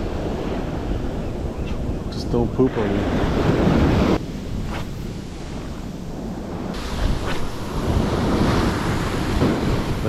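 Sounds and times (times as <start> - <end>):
ocean surf washing on beach: 0.0 - 10.0
wind buffeting microphone: 0.0 - 10.0.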